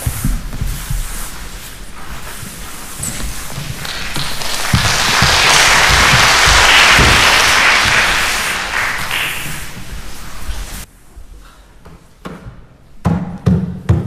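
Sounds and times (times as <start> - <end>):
mops and brooms swishing on wood: 0.0 - 12.3.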